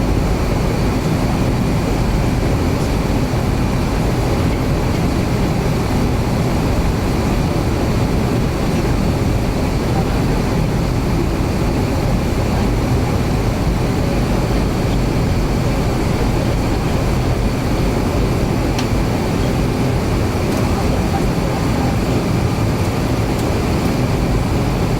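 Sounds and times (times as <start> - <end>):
jet engines rumbling in cabin: 0.0 - 24.9.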